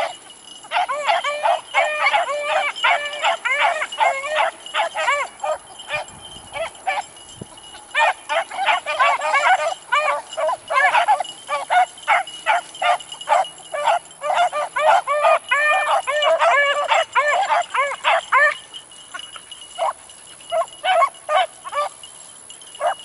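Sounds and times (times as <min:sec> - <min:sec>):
hounds baying and yelping: 0:00.0 - 0:23.0.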